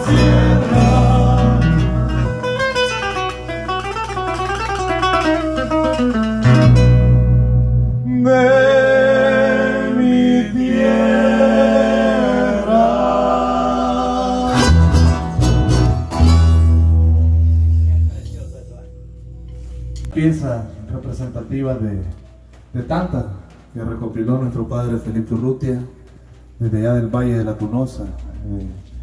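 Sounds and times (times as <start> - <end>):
folk band with guitars and keyboard: 0.0 - 23.8.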